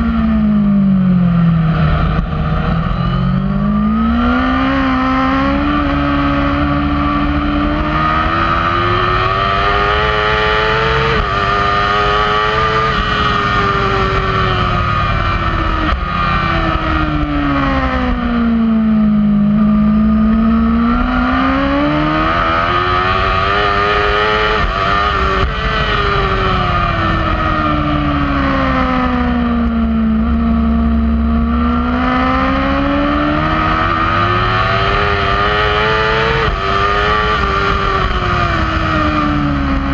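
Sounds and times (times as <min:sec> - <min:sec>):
superbike engine revving through gears: 0:02.0 - 0:39.9.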